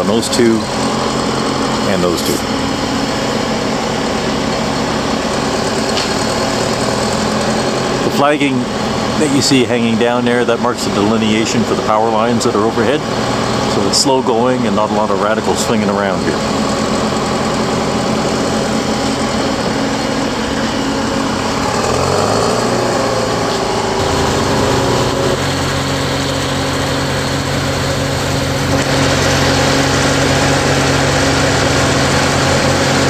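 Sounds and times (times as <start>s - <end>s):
crane diesel engine running: 0.0s - 33.0s.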